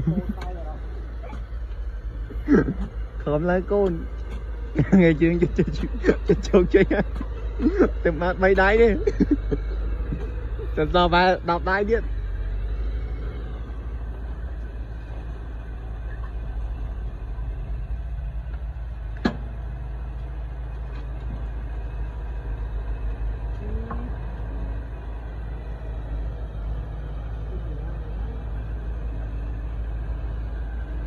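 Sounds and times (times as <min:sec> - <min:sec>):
heavy vehicle engine rumbling: 0:00.0 - 0:31.0.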